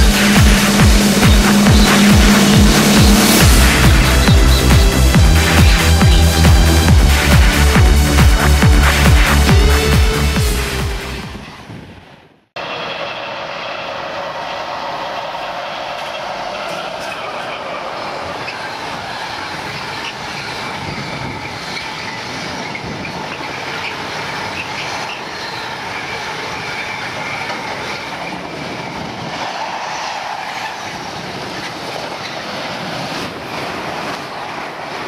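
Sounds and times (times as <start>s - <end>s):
high wheel squeal: 0.0s - 10.4s, 12.6s - 33.2s
freight train wheels rushing: 0.0s - 35.0s
passenger train passing: 0.0s - 35.0s.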